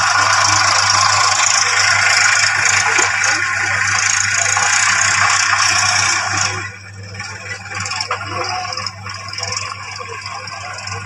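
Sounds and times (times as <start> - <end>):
toy motor whirring and rattling: 0.0 - 11.0.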